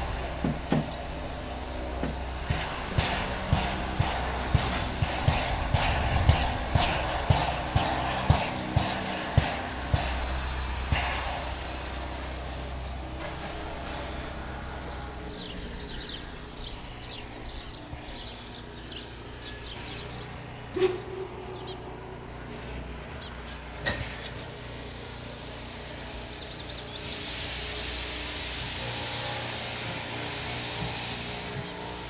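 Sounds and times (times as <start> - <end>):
steam hissing: 0.0 - 21.7, 23.2 - 32.0
birds chirping: 0.0 - 27.9
steam locomotive standing: 0.0 - 32.0.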